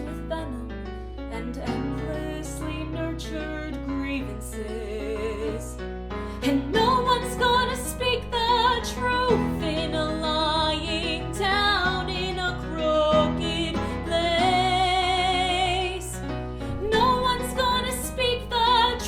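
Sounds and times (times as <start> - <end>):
woman singing with vibrato: 0.0 - 0.7, 1.3 - 5.8, 6.4 - 19.0.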